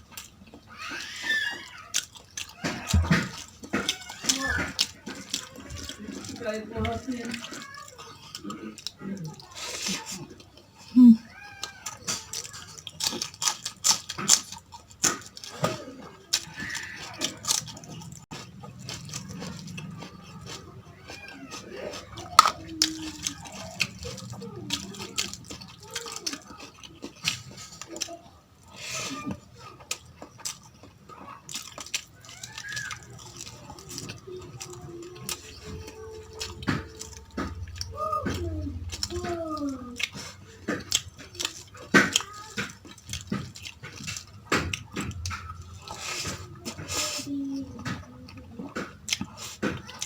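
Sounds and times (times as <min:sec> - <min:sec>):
wet chewing and mouth clicks: 0:00.0 - 0:50.0.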